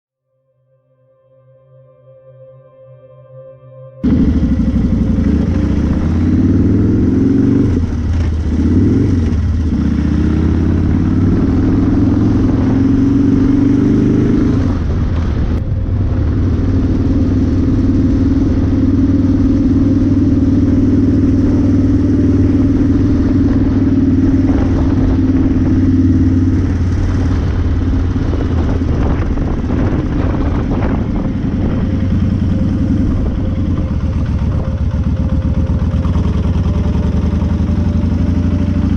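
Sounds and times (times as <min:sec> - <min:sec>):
wind rush: 0:04.0 - 0:36.9
motorcycle engine running: 0:04.0 - 0:38.9.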